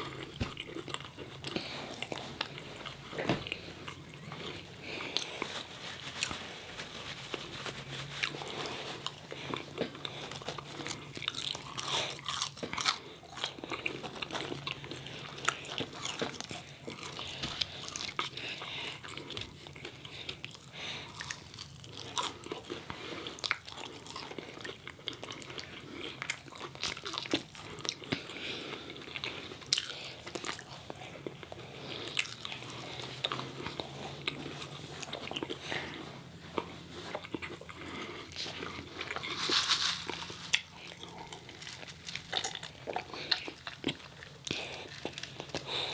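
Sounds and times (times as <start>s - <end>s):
chewing crunchy fried chicken: 0.0s - 45.9s.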